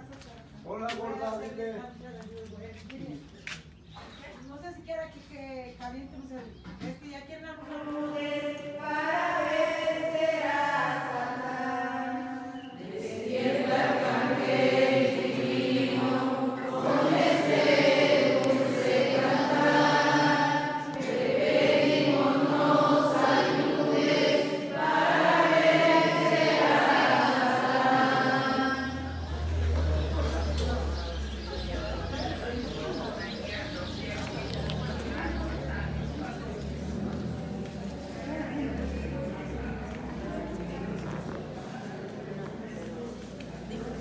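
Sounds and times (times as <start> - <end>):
group singing a hymn: 7.6 - 44.0.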